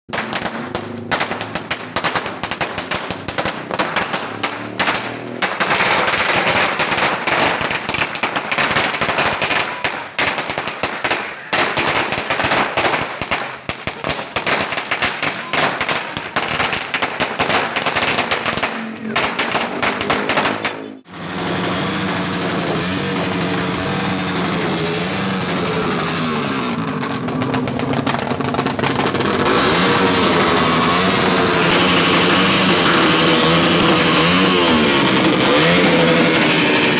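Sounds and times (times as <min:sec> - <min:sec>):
motorcycle engine revving: 0:00.1 - 0:09.9, 0:15.5 - 0:36.9
exhaust backfiring pops: 0:00.1 - 0:36.9.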